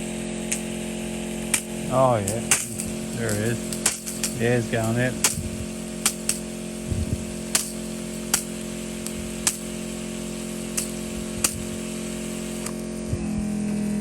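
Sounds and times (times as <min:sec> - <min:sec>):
pump humming: 0:00.0 - 0:14.0
spray line popping: 0:00.4 - 0:14.0.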